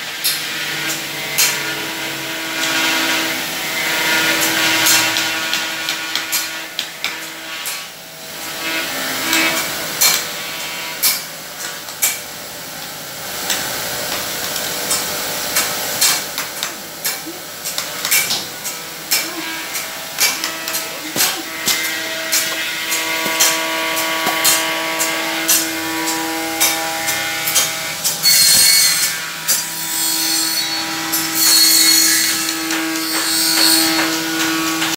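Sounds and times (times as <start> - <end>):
machinery hum: 0.0 - 29.8.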